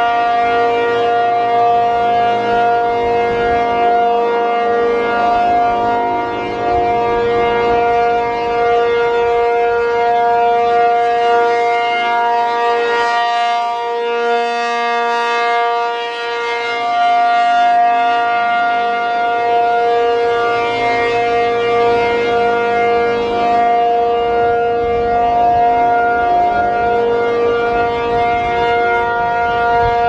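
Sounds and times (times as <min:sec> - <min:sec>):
two-tone warning siren: 0:00.0 - 0:30.0.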